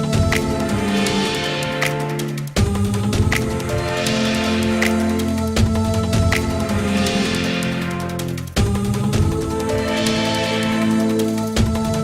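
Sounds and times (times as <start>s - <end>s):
synth chords over a beat: 0.0s - 12.0s.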